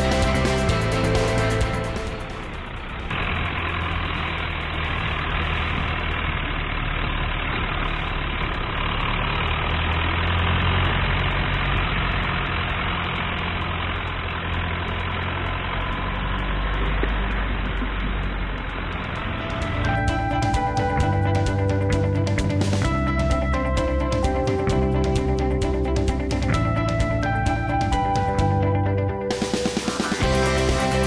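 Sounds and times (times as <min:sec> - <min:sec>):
road noise: 0:00.0 - 0:28.4
low engine hum: 0:00.0 - 0:29.2.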